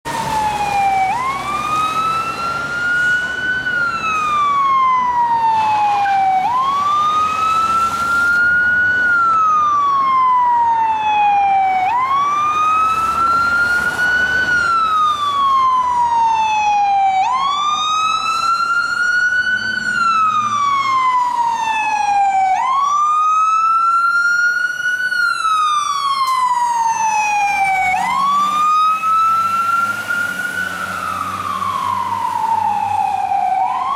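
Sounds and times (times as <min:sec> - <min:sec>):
fire engine siren wailing: 0:00.0 - 0:33.9
traffic noise: 0:00.0 - 0:33.9.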